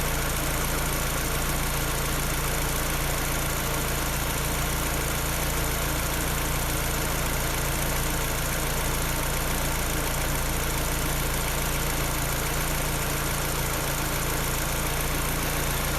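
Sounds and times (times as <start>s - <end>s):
car engine idling with clacking: 0.0s - 15.9s.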